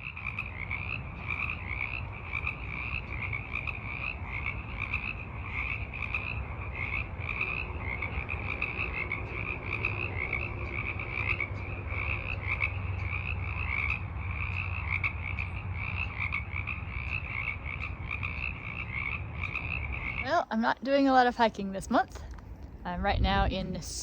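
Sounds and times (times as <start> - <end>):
frogs calling: 0.0 - 22.8
steady low rumble: 0.0 - 24.0.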